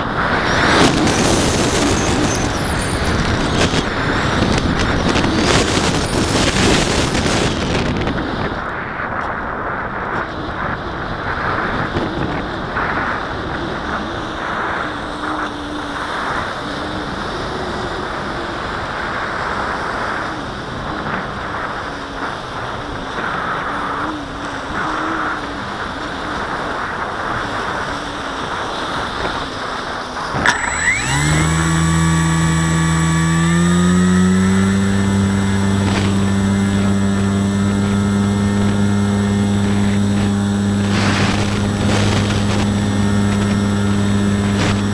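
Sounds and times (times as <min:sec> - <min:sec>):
electric motor and propeller whine: 0:00.0 - 0:44.9.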